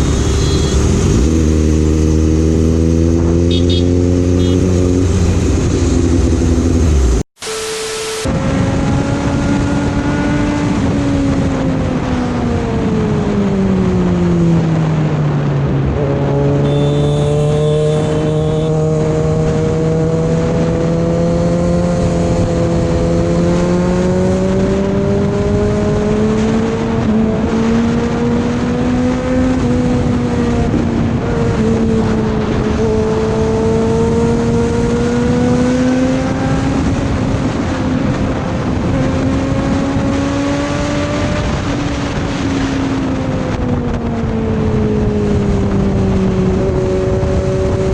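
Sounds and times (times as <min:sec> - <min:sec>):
motorcycle engine: 0:00.0 - 0:47.9
wind rush: 0:00.9 - 0:16.7, 0:18.1 - 0:47.9.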